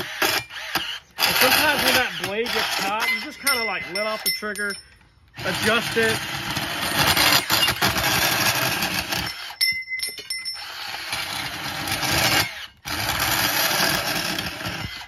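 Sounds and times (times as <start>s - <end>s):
bandsaw cutting metal: 0.0s - 9.7s, 10.4s - 15.0s.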